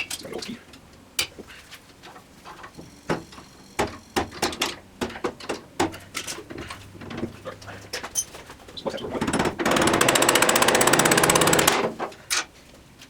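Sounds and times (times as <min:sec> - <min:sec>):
clinks and knocks on metal parts: 0:00.0 - 0:12.5.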